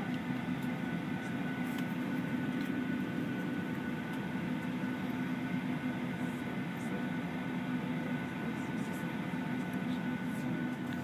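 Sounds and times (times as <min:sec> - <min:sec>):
airliner cabin hum and hiss: 0:00.0 - 0:11.0.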